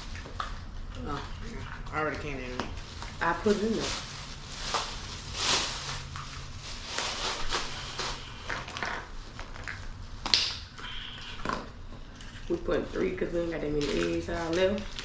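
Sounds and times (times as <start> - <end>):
plastic bags and wrappers crinkling: 0.0 - 15.0.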